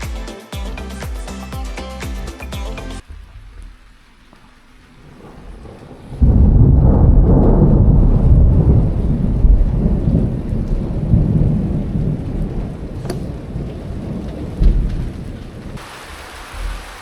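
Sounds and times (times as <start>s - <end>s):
rain falling: 3.0s - 17.0s
thunder rumbling: 3.0s - 17.0s.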